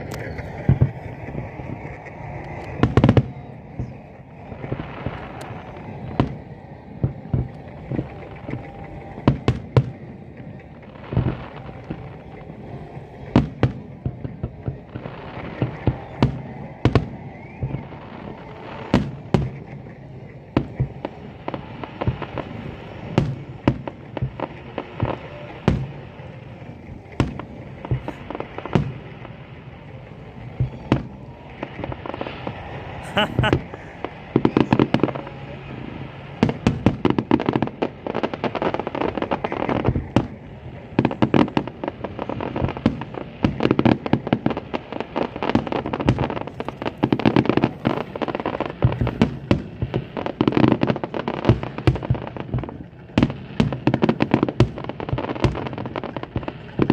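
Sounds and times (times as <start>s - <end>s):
crowd hum: 0.0s - 56.9s.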